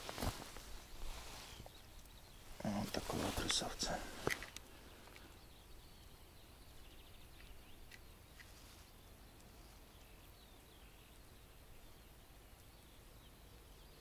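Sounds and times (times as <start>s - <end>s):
faint distant birdsong: 0.0s - 14.0s.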